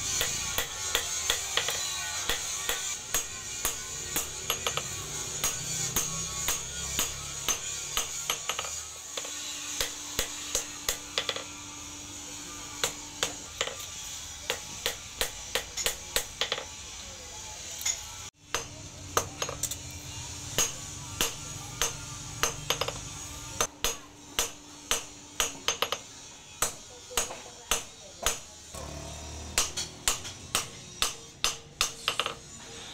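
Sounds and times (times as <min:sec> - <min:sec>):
hammer striking steel on anvil: 0:00.0 - 0:11.6, 0:12.7 - 0:16.8, 0:17.8 - 0:19.8, 0:20.4 - 0:28.6, 0:29.3 - 0:32.5.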